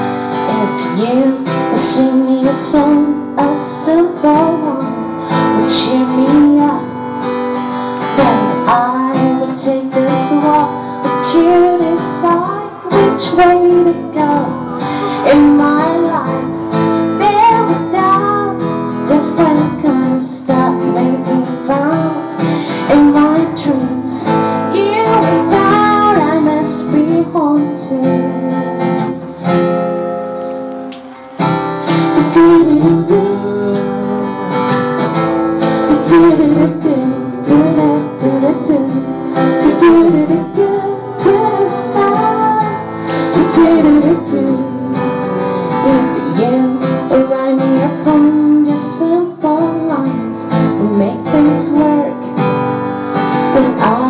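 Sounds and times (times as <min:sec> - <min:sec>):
acoustic guitar strumming: 0:00.0 - 0:54.0
woman singing: 0:00.3 - 0:07.4, 0:08.0 - 0:29.1, 0:32.1 - 0:34.8, 0:35.8 - 0:52.5, 0:53.3 - 0:54.0.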